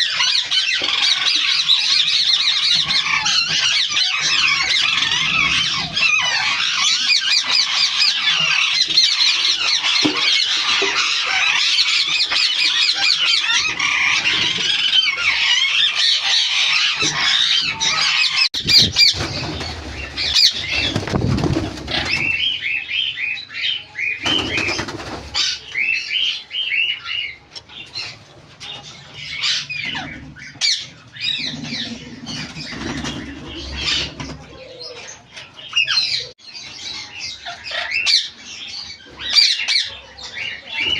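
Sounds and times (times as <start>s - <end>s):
parakeets chattering and squawking: 0.0s - 40.9s.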